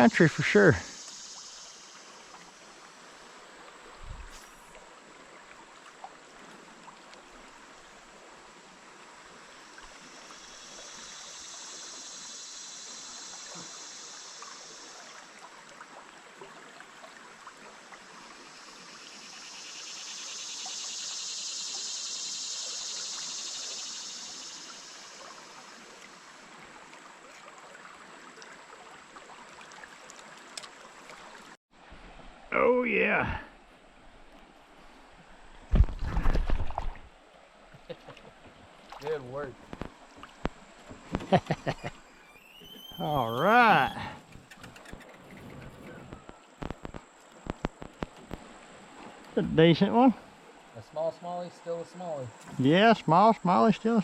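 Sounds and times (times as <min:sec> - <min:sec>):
stream water running over riverbed: 0:00.0 - 0:54.0.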